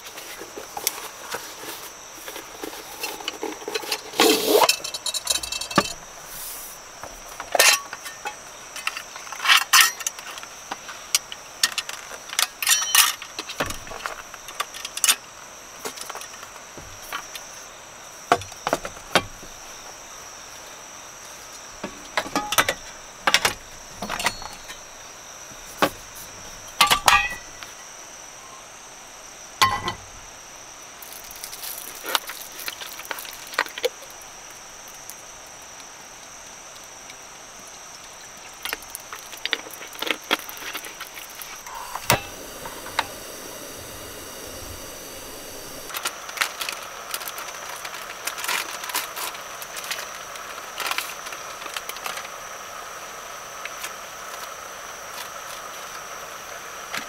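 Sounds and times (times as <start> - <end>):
high insect buzz: 0.0 - 57.0
soft gas hiss: 0.0 - 57.0.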